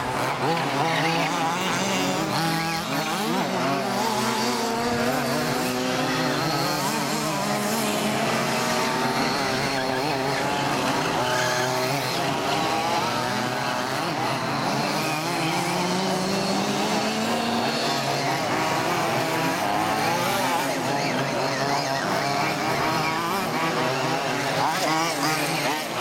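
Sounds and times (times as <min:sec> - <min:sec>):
model buggy engines buzzing: 0:00.0 - 0:26.0.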